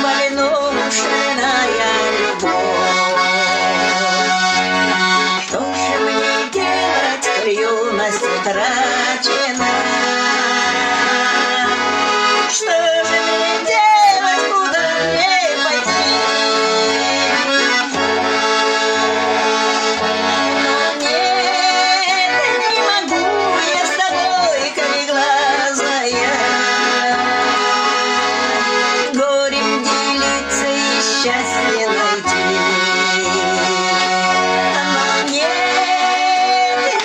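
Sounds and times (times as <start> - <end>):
button accordion melody: 0.0 - 37.0.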